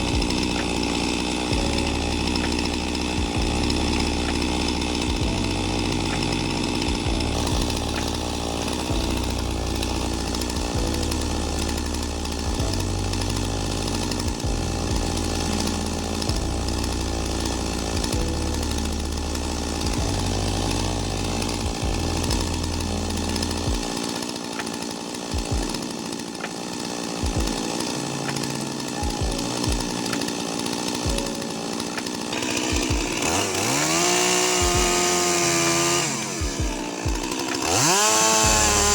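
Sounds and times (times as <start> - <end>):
chainsaw cutting tree: 0.0 - 38.9.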